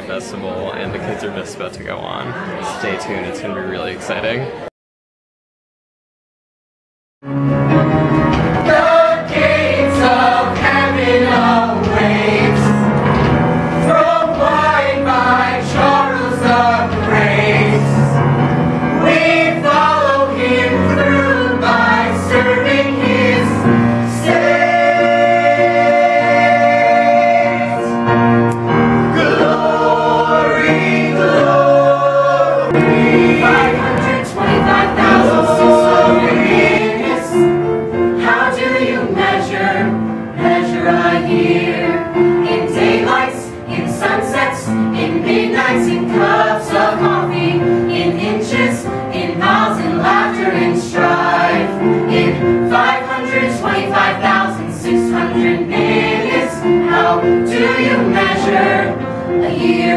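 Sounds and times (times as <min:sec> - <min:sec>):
ensemble singing in chorus: 0:07.7 - 0:59.9.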